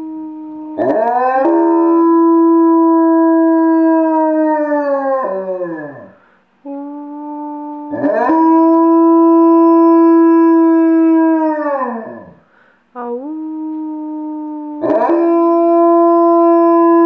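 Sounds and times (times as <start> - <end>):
dog howling: 0.0 - 6.1, 6.9 - 12.4, 13.6 - 17.0.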